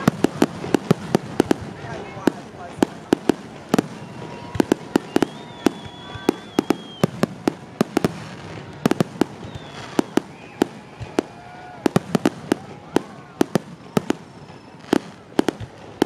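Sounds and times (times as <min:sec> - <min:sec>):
fireworks shells bursting: 0:00.0 - 0:16.0.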